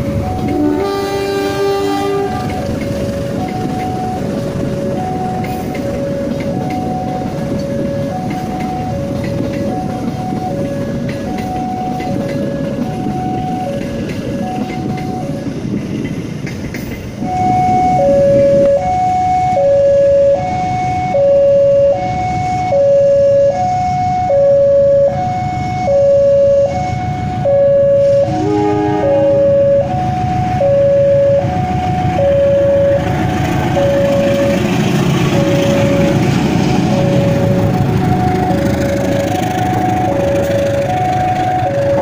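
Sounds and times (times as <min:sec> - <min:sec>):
two-tone crossing alarm: 0:00.0 - 0:15.7, 0:17.2 - 0:42.0
freight train rumbling past: 0:00.0 - 0:42.0.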